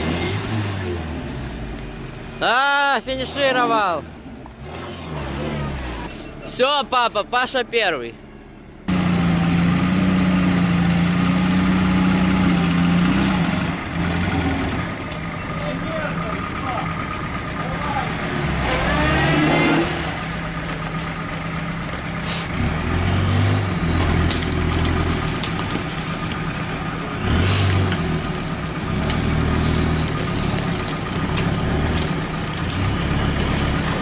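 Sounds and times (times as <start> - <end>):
car engine revving: 0.0 - 2.5, 3.1 - 6.4, 8.8 - 34.0.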